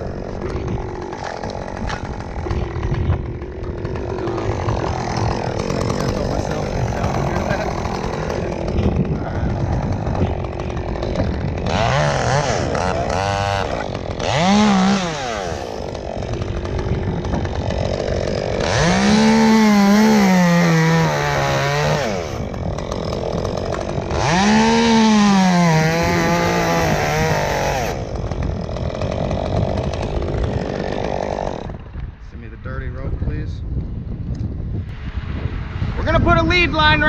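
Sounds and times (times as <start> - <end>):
chainsaw revving and idling: 0.0 - 32.0.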